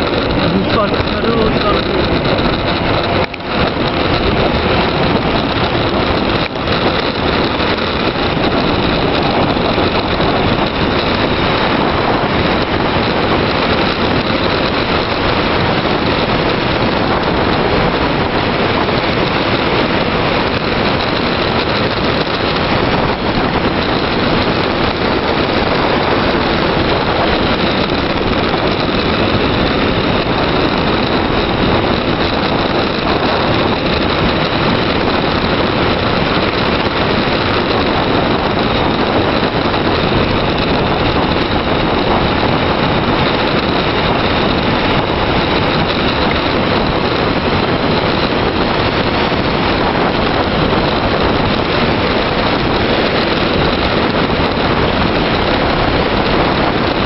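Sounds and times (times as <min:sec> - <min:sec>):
tyres rolling on asphalt: 0:00.0 - 0:57.0
wind rushing over microphone: 0:00.0 - 0:57.0.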